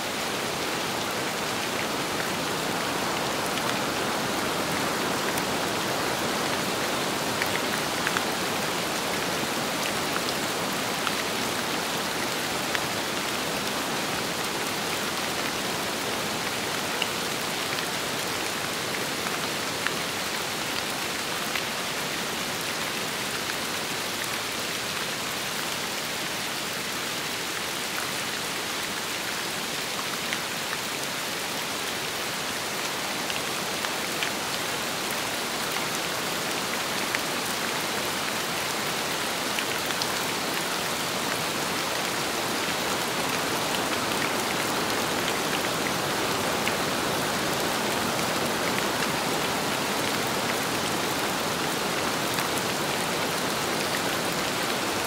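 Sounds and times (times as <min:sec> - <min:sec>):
rain falling in wind: 0:00.0 - 0:55.0.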